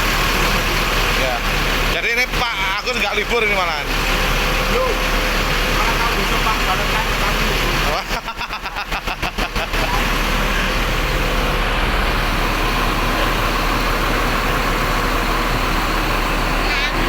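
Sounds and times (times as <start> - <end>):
large vehicle engine running: 0.0 - 17.0.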